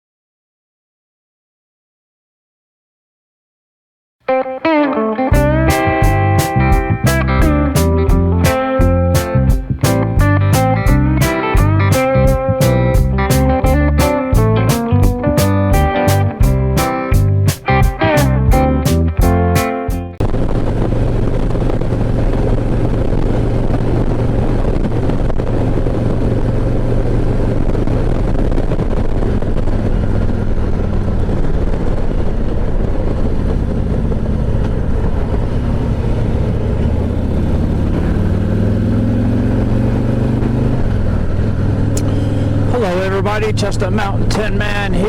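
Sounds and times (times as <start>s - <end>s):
motorcycle engine running: 5.3s - 19.5s, 20.1s - 45.0s
wind and road noise: 5.3s - 19.6s, 20.2s - 45.0s.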